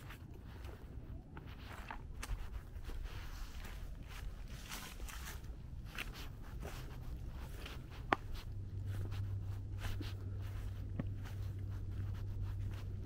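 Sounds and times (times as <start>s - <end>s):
footsteps scuffing on a path: 0.0s - 13.0s
steady low hum: 0.0s - 13.0s.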